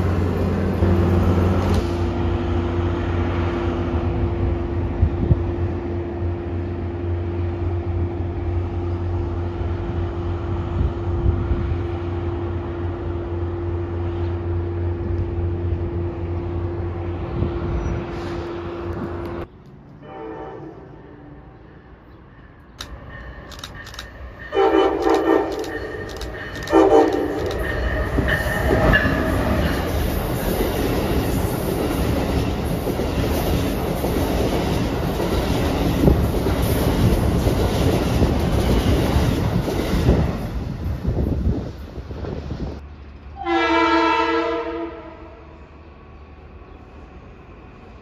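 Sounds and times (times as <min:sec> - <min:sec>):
diesel locomotive droning: 0:00.0 - 0:48.0.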